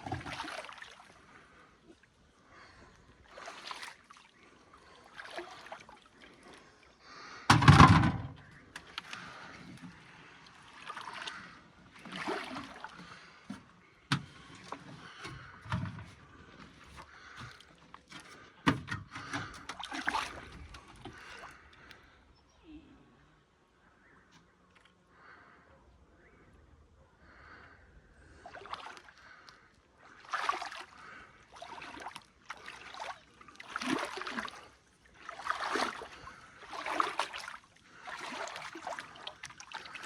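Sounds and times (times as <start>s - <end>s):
water sloshing and splashing: 0.0s - 22.0s, 28.3s - 40.0s.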